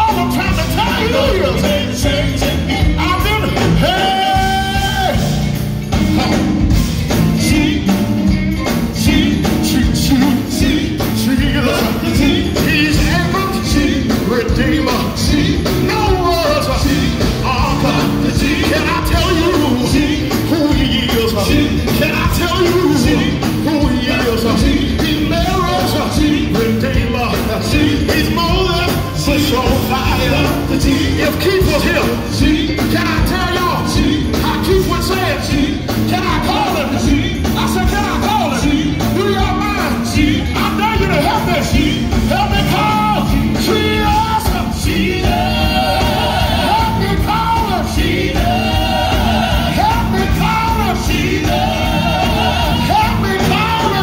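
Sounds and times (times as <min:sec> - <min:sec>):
band playing through pa: 0:00.0 - 0:54.0
gospel quartet singing: 0:00.0 - 0:54.0.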